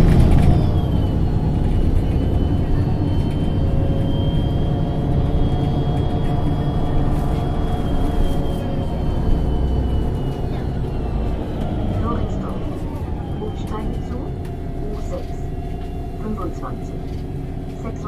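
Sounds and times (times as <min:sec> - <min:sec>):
bus engine drone: 0:00.0 - 0:18.0
high engine whine: 0:00.0 - 0:18.0.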